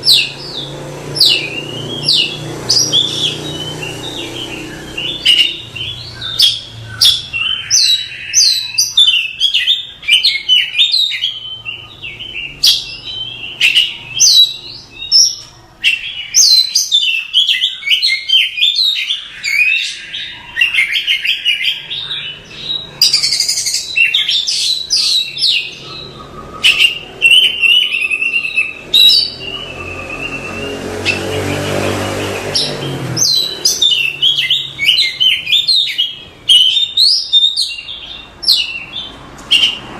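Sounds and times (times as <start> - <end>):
bird singing whistles and trills: 0.0 - 39.8.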